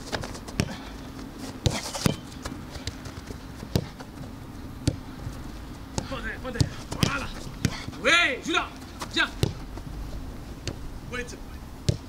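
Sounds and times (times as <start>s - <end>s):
foot kicking football: 0.0s - 10.0s.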